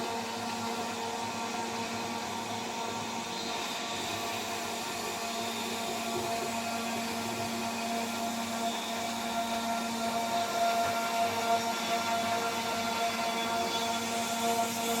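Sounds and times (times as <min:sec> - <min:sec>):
router spindle whine: 0:00.1 - 0:15.0.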